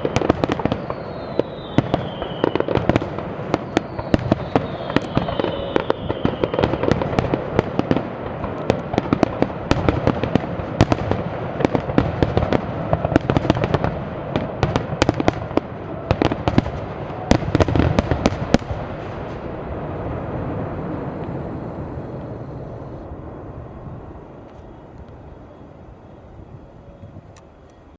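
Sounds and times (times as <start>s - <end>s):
fireworks bangs and cracks: 0.0s - 22.7s
fireworks rumble: 0.0s - 27.9s.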